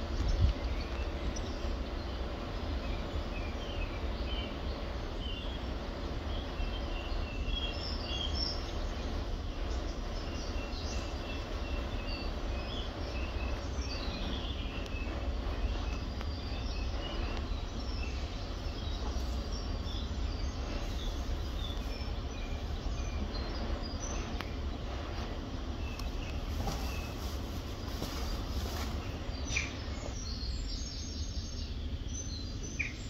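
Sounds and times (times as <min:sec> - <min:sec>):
low background rumble: 0:00.0 - 0:33.0
small birds chirping: 0:00.0 - 0:33.0.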